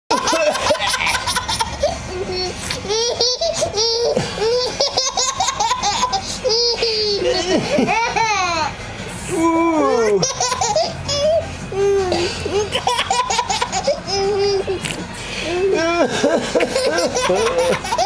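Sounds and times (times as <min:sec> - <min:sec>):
baby laughing: 0:00.1 - 0:08.8, 0:10.0 - 0:18.0.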